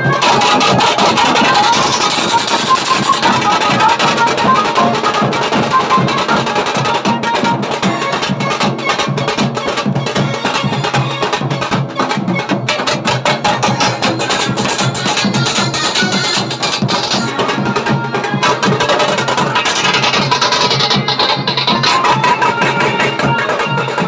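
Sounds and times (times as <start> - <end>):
high melody line: 0.0 - 24.0
large dhol beating: 0.0 - 24.0
tasa drums played fast: 0.0 - 24.0.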